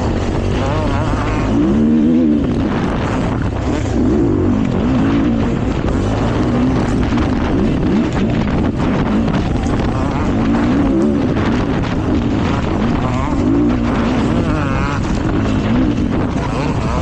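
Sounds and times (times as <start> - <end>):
dirt bike engine revving: 0.0 - 17.0
wind buffeting microphone: 0.0 - 17.0.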